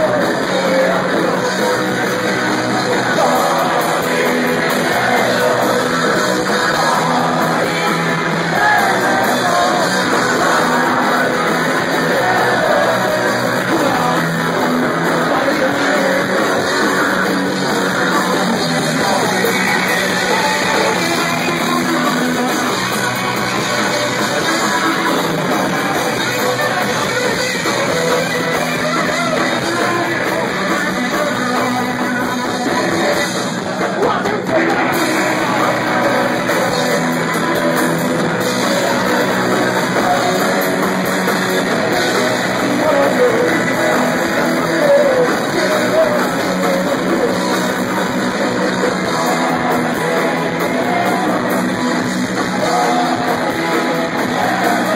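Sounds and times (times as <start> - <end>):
live punk rock band playing: 0.0 - 54.9.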